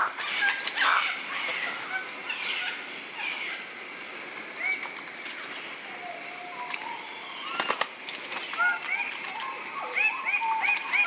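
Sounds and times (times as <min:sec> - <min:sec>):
birds chirping: 0:00.0 - 0:11.0
steady high-pitched hiss: 0:00.0 - 0:11.0.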